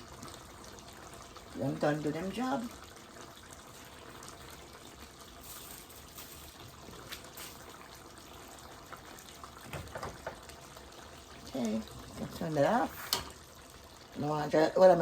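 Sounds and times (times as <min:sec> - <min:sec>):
pot simmering with pops: 0:00.0 - 0:15.0.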